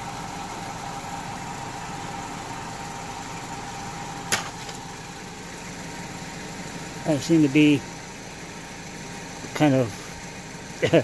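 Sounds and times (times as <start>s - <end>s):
car engine running: 0.0s - 11.0s
spinning wheel hum and whine: 0.0s - 11.0s.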